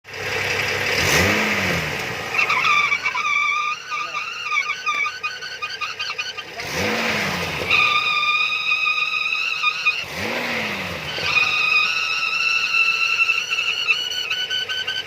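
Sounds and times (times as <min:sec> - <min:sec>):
car engine revving: 0:00.1 - 0:15.0
high-pitched squeal: 0:02.2 - 0:15.0.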